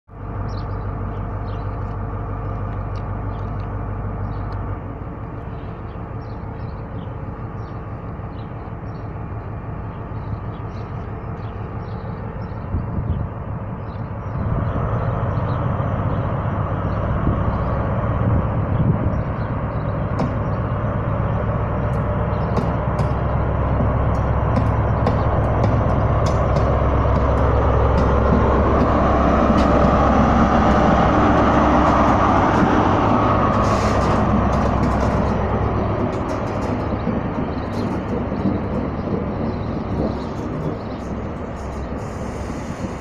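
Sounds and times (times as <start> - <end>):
diesel engine idling and revving: 0.1 - 43.0.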